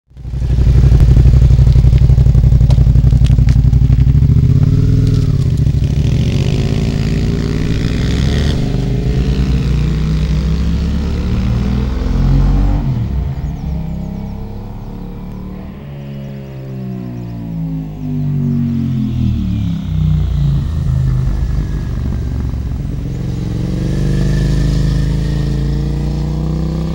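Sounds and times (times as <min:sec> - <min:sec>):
motorcycle engines revving: 0:00.2 - 0:26.9.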